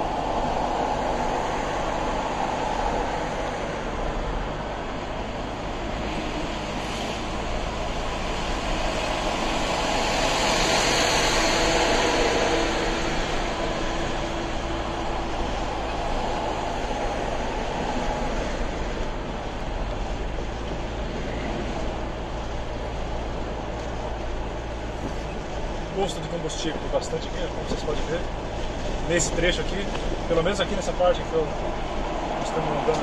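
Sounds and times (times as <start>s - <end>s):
car road and tyre noise: 0.0s - 33.0s.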